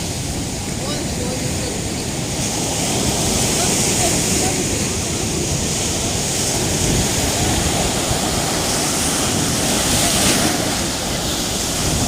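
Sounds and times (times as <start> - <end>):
waves breaking: 0.0 - 12.0.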